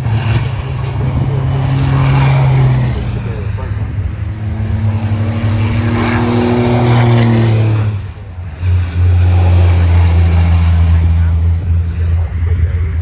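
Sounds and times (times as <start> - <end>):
race truck diesel engines: 0.0 - 13.0.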